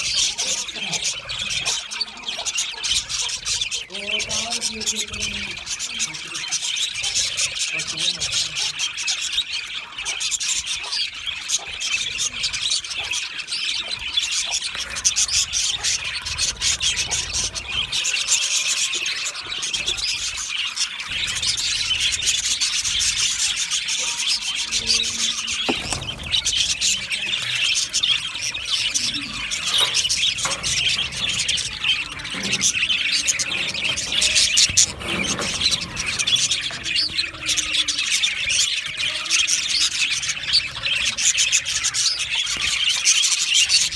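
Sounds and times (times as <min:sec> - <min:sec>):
budgerigars chattering and chirping: 0:00.0 - 0:43.9.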